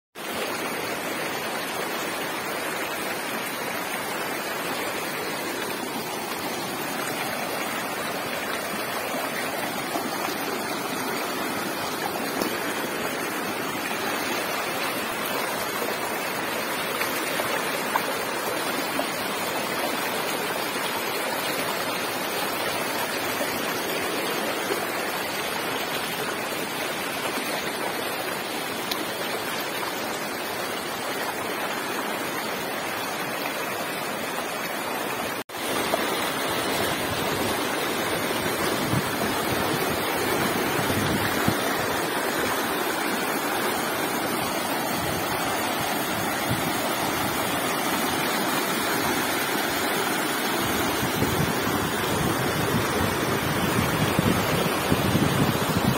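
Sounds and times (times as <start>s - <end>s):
water rushing along a channel: 0.2s - 55.9s.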